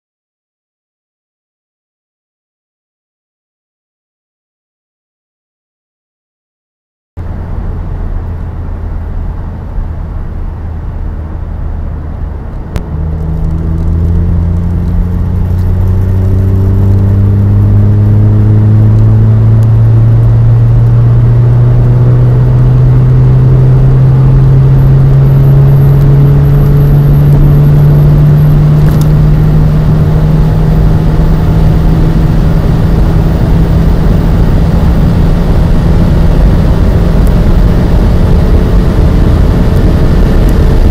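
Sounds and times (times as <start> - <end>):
turbocharged car engine revving: 7.2 - 40.9.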